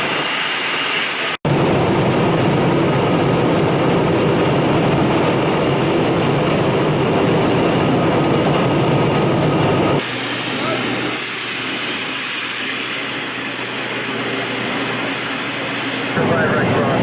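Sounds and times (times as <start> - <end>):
heavy truck engine running: 1.5 - 17.0.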